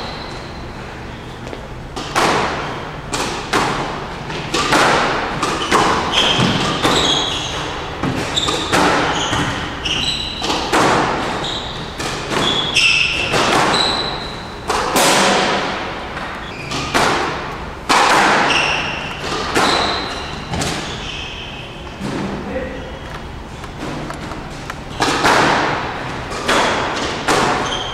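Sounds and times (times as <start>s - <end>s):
shoes squeaking on court floor: 0.0s - 15.0s, 15.6s - 27.9s
squash ball hits: 1.9s - 21.0s, 23.8s - 27.9s.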